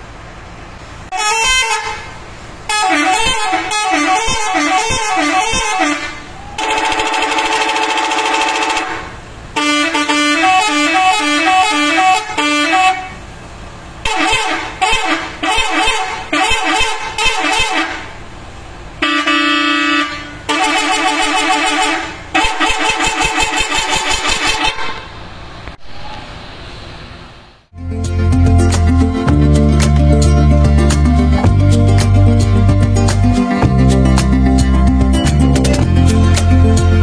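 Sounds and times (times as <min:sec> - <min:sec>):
multi-tone bus horn melody: 0:01.1 - 0:13.4, 0:14.0 - 0:18.3, 0:19.0 - 0:25.1, 0:27.7 - 0:37.0.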